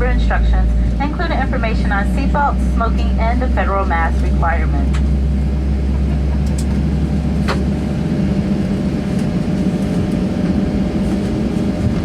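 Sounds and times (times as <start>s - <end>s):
airplane cabin hum: 0.0s - 12.0s.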